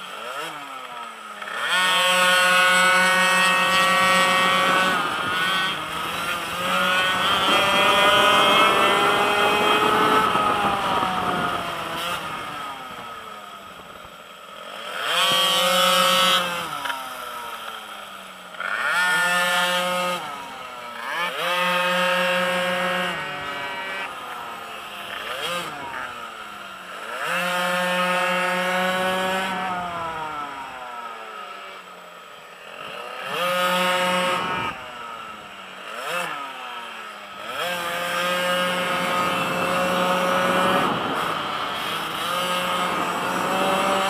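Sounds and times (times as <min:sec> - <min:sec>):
two-stroke engine revving high: 0:00.0 - 0:44.0.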